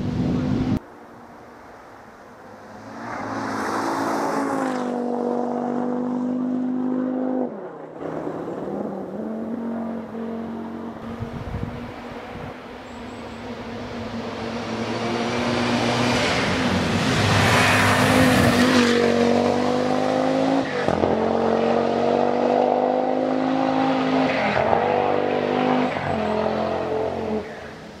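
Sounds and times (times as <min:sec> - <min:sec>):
rally car engine at full throttle: 0:02.7 - 0:27.8.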